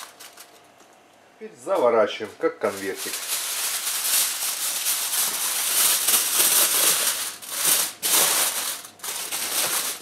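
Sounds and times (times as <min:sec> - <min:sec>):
aluminium foil crinkling: 0:00.0 - 0:00.7, 0:01.8 - 0:10.0.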